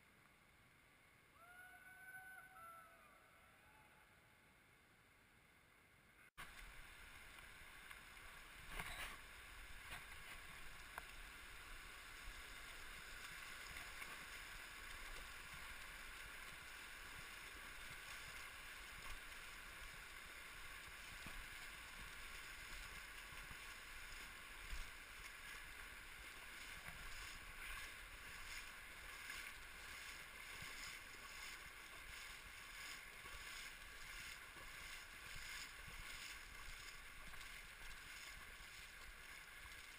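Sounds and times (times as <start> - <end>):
river water running over cobbles: 6.4 - 39.9.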